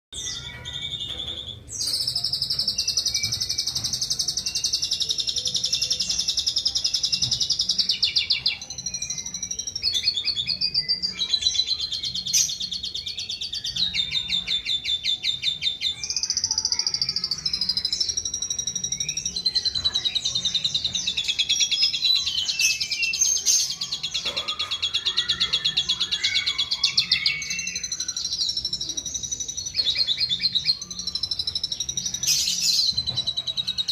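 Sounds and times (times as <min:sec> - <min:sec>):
starling singing trills: 0:00.2 - 0:33.9.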